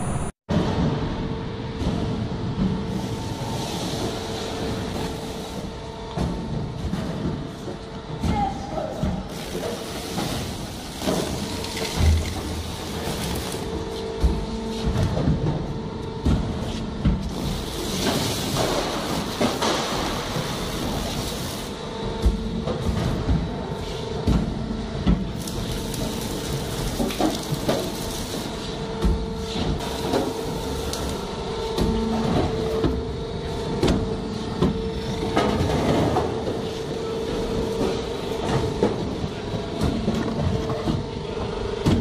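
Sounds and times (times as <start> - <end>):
machine humming: 0.0 - 42.0.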